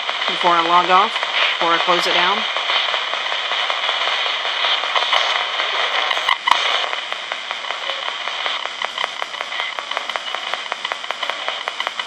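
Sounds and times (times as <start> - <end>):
radio static hiss: 0.0 - 12.0
rapid radio clicks: 0.0 - 12.0
sharp pops: 0.0 - 12.0.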